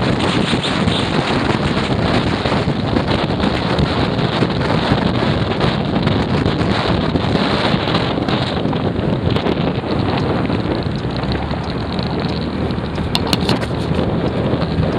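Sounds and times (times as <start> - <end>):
heavy wind noise on microphone: 0.0 - 14.9.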